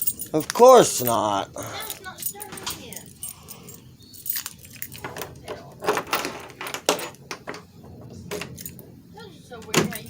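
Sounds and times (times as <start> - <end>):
keys jangling: 0.0 - 7.6, 8.2 - 8.9, 9.8 - 10.0.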